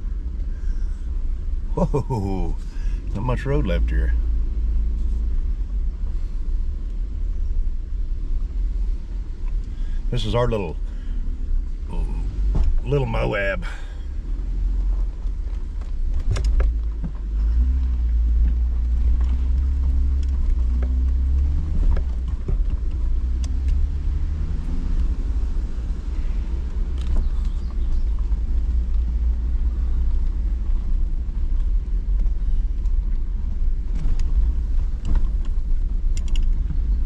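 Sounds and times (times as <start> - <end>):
vehicle engine low rumble: 0.0 - 37.0.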